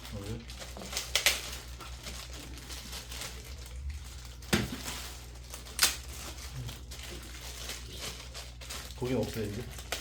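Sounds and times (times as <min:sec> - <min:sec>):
packaging handling noise: 0:00.0 - 0:10.0.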